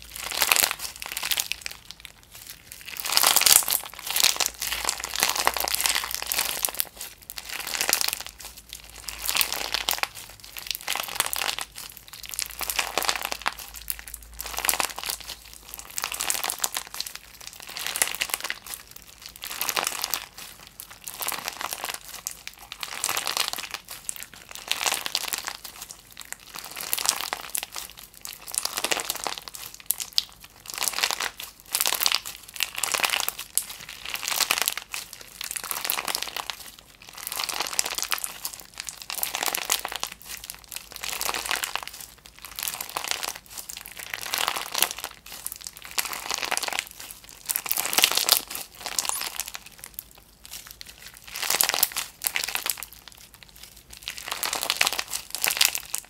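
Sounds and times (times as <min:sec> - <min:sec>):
bead slime crackling: 0:00.0 - 0:56.0.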